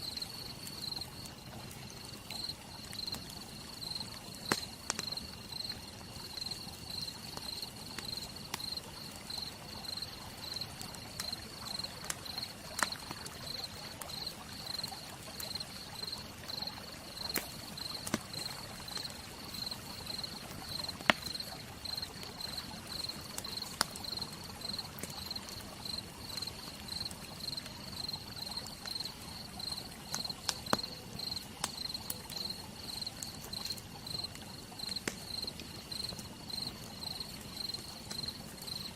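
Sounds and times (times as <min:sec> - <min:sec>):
insect chirping: 0:00.1 - 0:01.4, 0:02.0 - 0:12.5, 0:13.5 - 0:38.9
wood fire crackling and popping: 0:00.2 - 0:38.9.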